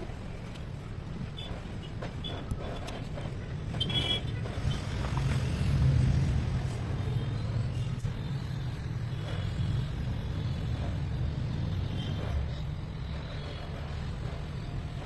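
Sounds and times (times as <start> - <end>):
diesel engine rumbling: 2.2 - 14.4.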